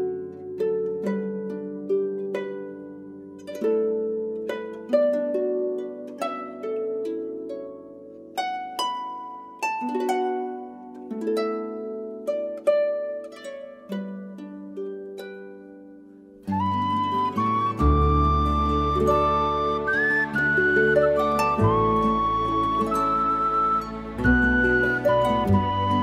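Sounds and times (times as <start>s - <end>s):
plucked harp-like melody: 0.0s - 26.0s.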